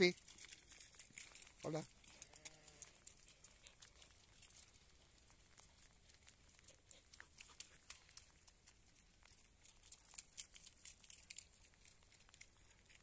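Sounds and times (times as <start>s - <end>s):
soft irregular ticks: 0.0s - 13.0s.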